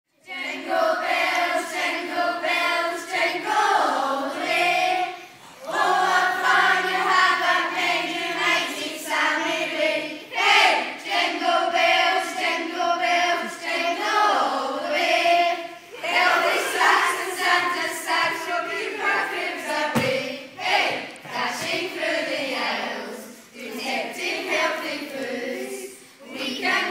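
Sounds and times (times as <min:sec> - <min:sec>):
choir singing: 0:00.2 - 0:26.9.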